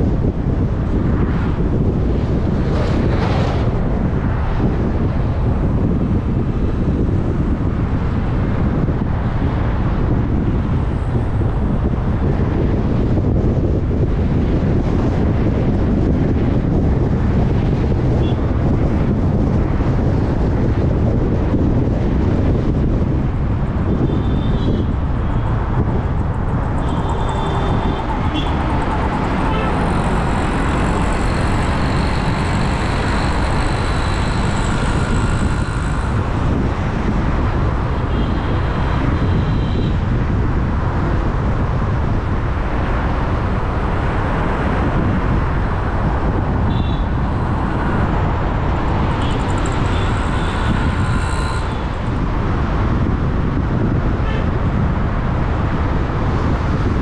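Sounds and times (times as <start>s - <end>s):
traffic rumble: 0.0s - 57.0s.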